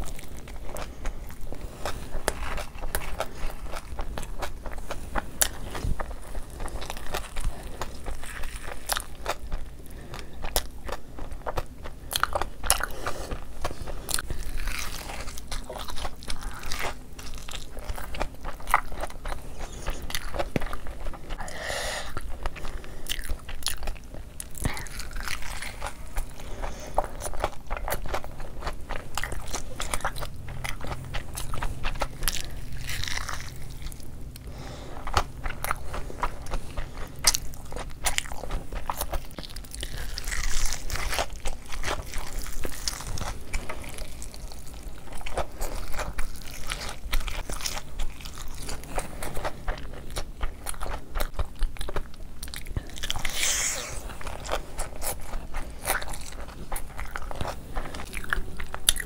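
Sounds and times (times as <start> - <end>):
person crunching and chewing: 0.0 - 59.0.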